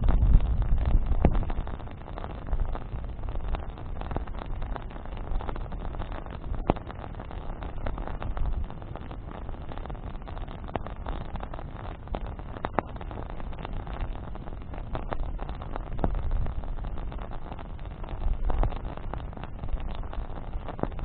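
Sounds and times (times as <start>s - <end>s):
campfire crackling and popping: 0.0s - 21.0s
low fire rumble: 0.0s - 21.0s.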